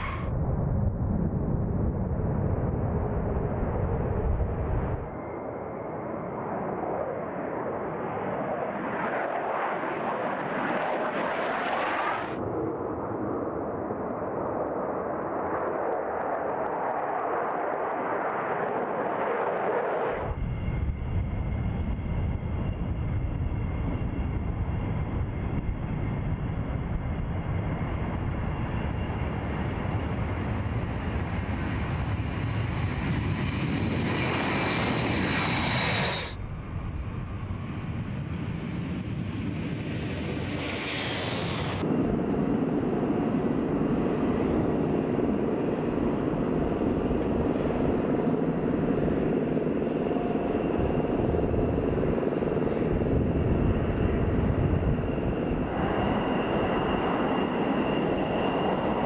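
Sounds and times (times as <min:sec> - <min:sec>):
jet engines rumbling and whining: 0:00.0 - 0:59.0
jet taking off roaring: 0:00.0 - 0:59.0.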